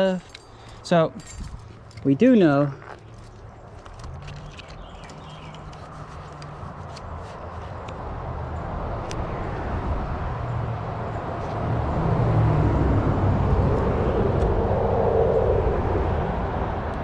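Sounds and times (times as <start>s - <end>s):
vehicle passing with tyre noise: 1.4s - 17.0s.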